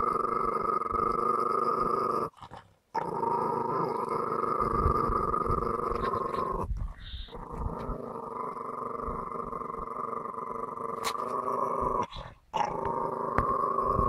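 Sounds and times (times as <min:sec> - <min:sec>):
small dog growling: 0:00.0 - 0:14.0.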